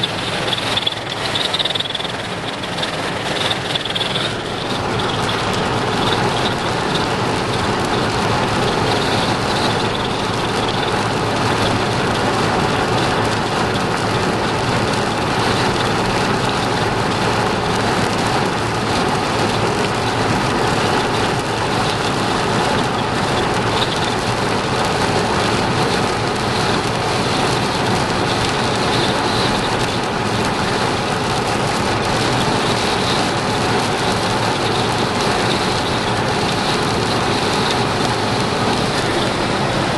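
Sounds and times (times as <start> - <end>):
heavy rain on a vehicle: 0.0 - 39.9.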